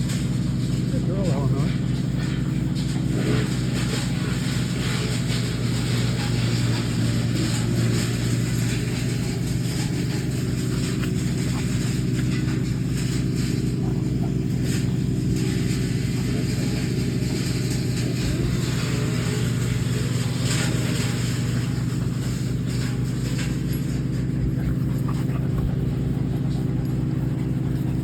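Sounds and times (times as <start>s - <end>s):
wood chipper engine running: 0.0s - 28.0s.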